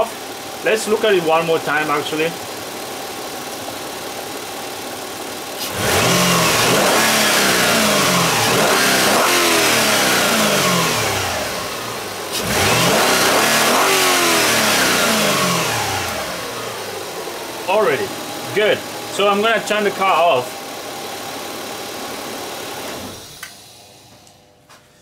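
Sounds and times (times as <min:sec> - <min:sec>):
car engine idling and revving: 0:00.0 - 0:24.3.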